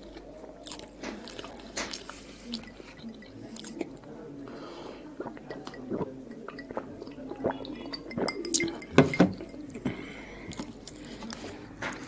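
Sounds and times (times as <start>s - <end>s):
sipping and swallowing a drink: 0.7s - 11.5s.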